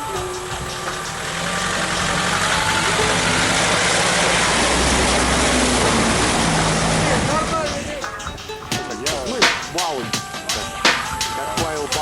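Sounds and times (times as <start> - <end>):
off-road vehicle engine running: 0.0 - 12.0
water spray rushing: 0.0 - 12.0.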